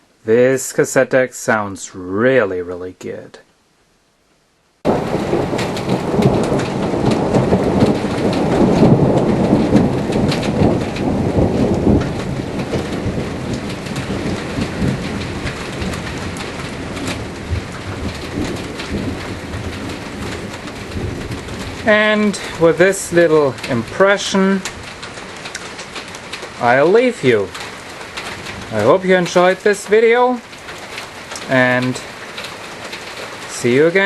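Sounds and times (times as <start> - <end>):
heavy rain: 0.0 - 3.3, 4.0 - 34.0
rumbling thunder: 4.9 - 33.4.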